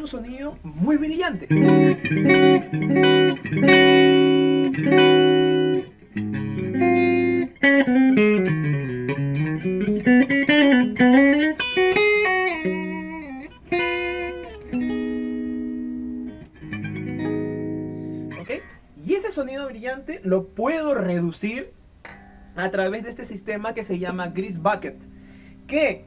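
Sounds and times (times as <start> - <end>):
bright electric guitar: 1.4 - 19.1, 22.0 - 26.0.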